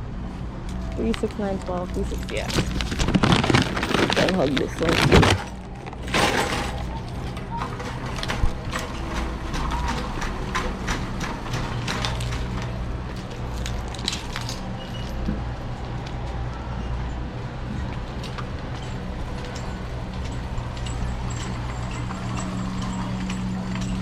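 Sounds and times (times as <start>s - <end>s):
items and cart clicking and knocking: 0.8s - 16.4s, 17.7s - 24.0s.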